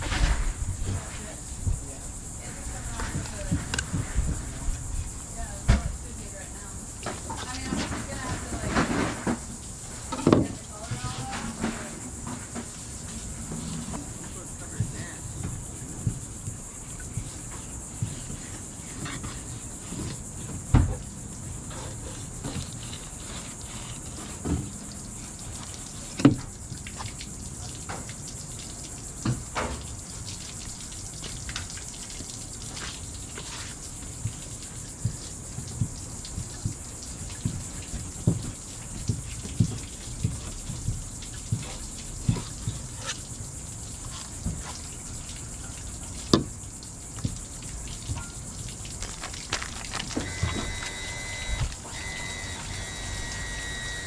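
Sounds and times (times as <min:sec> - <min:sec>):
insects humming: 0:00.0 - 0:54.0.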